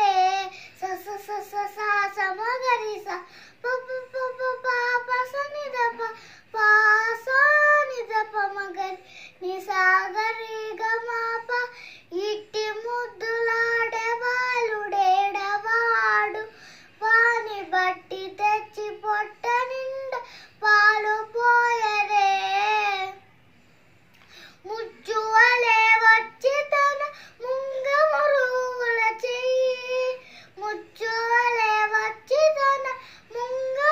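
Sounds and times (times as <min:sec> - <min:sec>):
girl singing unaccompanied: 0:00.0 - 0:23.4, 0:24.3 - 0:33.9.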